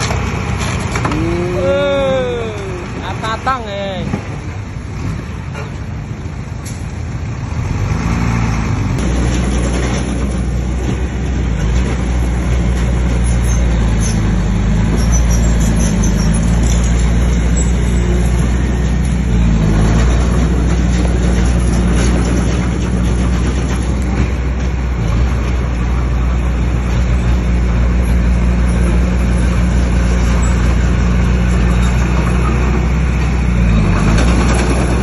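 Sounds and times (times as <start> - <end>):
bulldozer diesel engine: 0.0 - 35.0.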